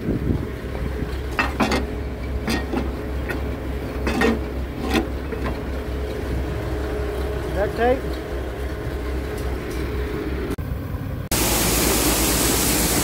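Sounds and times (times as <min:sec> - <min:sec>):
metal hopper clanking: 0:00.0 - 0:10.6
low machine drone: 0:00.0 - 0:13.0.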